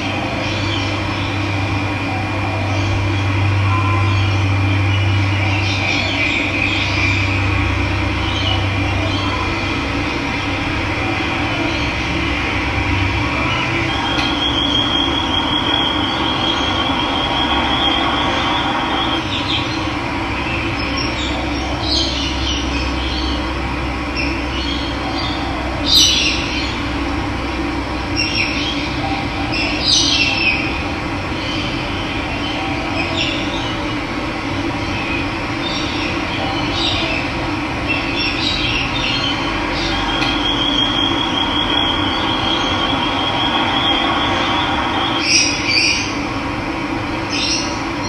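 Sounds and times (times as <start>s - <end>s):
birds calling: 0.0s - 27.3s, 28.0s - 48.0s.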